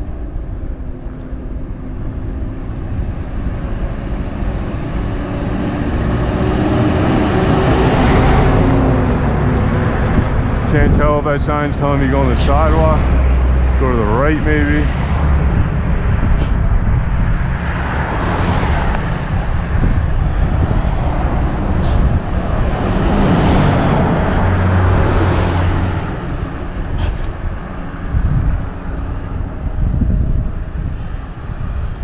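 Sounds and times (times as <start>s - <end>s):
motor vehicle passing: 0.0s - 32.0s
road noise low rumble: 0.0s - 32.0s.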